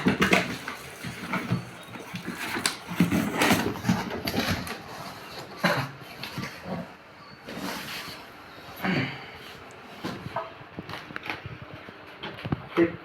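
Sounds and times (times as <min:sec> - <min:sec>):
packaging rustling and scraping: 0:00.0 - 0:12.7.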